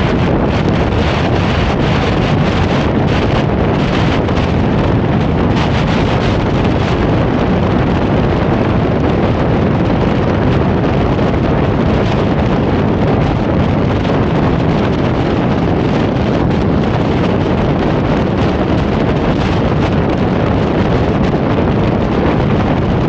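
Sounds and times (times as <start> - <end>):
car road noise: 0.0 - 23.0
wind buffeting microphone: 0.0 - 23.0.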